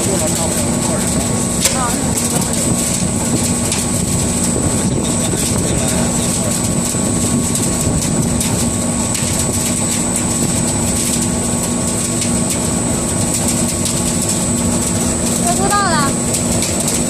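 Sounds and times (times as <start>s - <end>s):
constant high whine: 0.0s - 17.0s
sawdust burner rushing: 0.0s - 17.0s.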